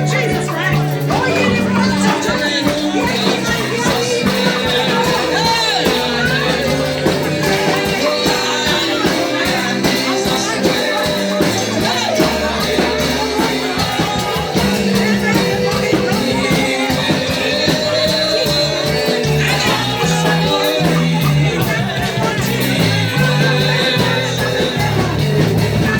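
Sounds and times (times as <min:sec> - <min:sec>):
percussion beat: 0:00.0 - 0:25.9
upbeat gospel band music: 0:00.0 - 0:25.9
voices singing: 0:00.0 - 0:25.9.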